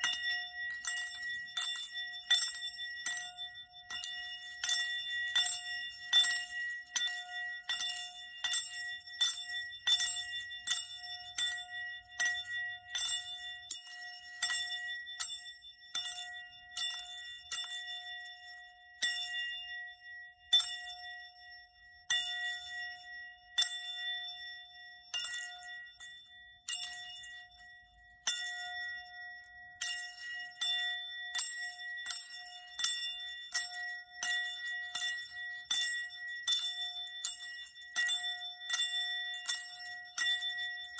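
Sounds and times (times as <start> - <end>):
small metal bell ringing: 0.0 - 40.9.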